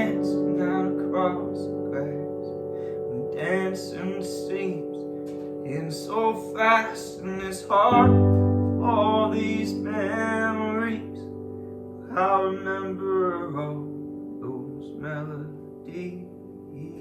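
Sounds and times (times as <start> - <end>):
person singing: 0.0 - 11.4, 12.0 - 17.0.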